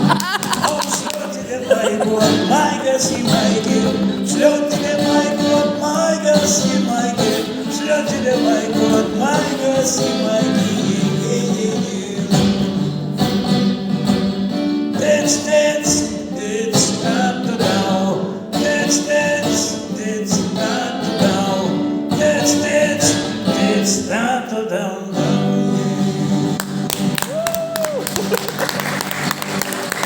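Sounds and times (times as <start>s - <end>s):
person singing: 0.0s - 12.8s, 15.0s - 26.5s
live band guitar song: 0.0s - 24.4s, 25.2s - 30.0s.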